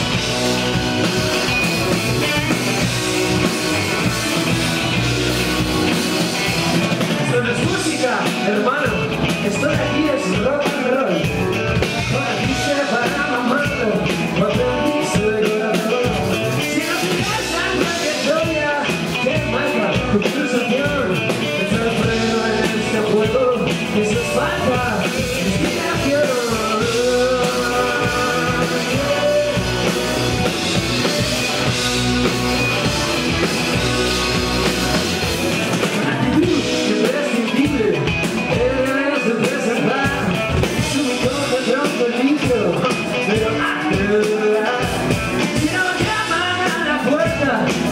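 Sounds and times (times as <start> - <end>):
drum kit: 0.0 - 47.9
electric guitars: 0.0 - 47.9.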